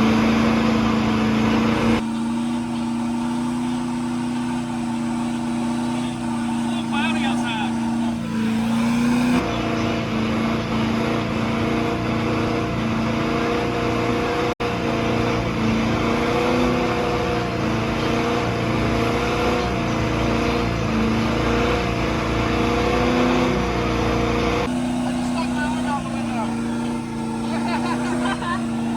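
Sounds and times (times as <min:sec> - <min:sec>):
truck engine revving high: 0:00.0 - 0:28.9.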